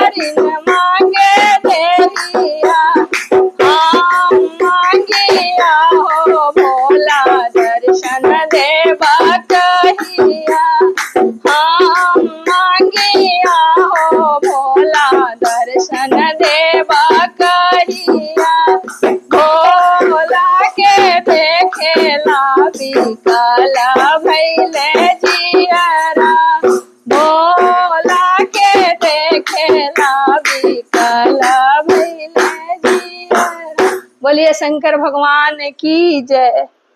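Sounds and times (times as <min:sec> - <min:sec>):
hand drum strokes: 0:00.0 - 0:34.2
woman singing in a high voice: 0:00.0 - 0:36.7.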